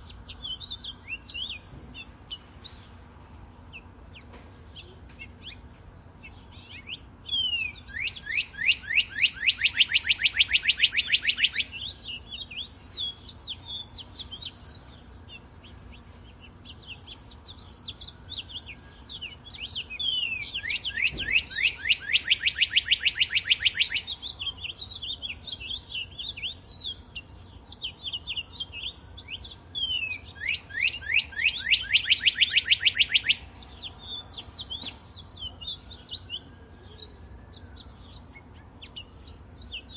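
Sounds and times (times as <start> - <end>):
songbird trilling: 0.0 - 2.8, 3.6 - 39.9.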